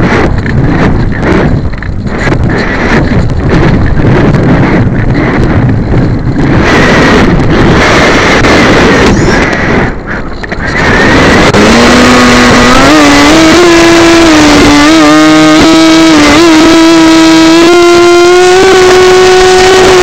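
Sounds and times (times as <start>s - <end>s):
buzzing motor whine: 0.0s - 20.0s
wind rushing over microphone: 0.0s - 20.0s.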